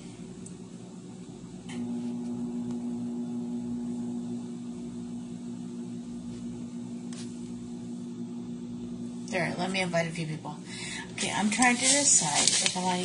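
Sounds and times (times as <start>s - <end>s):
low electrical hum: 0.0s - 13.0s
motor humming: 1.6s - 13.0s.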